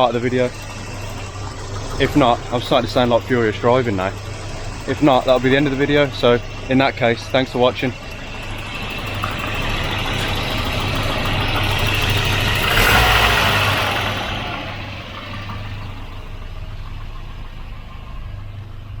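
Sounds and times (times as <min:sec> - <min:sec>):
car engine running: 0:00.0 - 0:19.0
steady low hum: 0:00.0 - 0:19.0.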